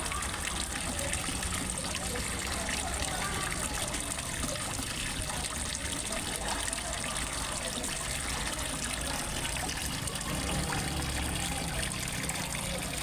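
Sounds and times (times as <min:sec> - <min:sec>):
water splashing into pond: 0:00.0 - 0:13.0.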